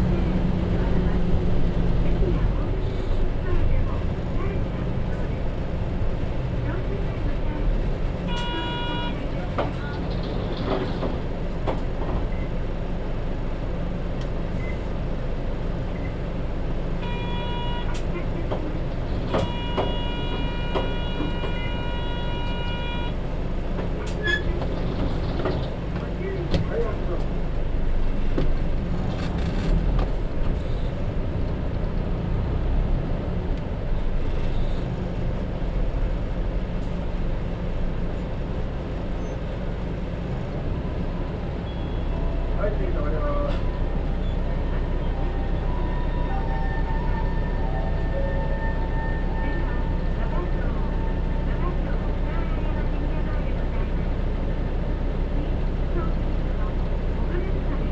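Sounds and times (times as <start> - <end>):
bus diesel engine rumble: 0.0 - 57.9
road noise: 0.0 - 57.9.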